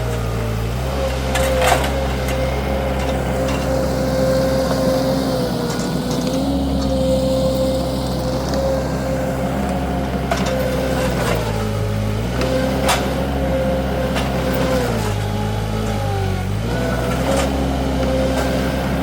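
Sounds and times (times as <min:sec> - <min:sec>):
skid steer engine running: 0:00.0 - 0:19.0.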